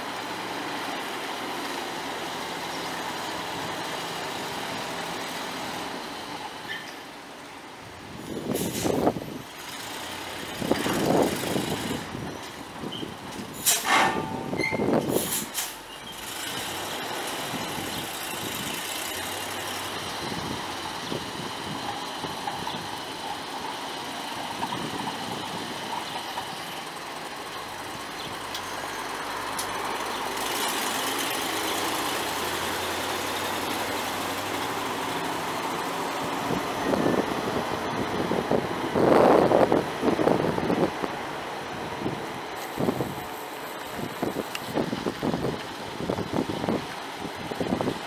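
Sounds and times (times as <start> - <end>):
fire truck engine running: 0.0 - 48.0.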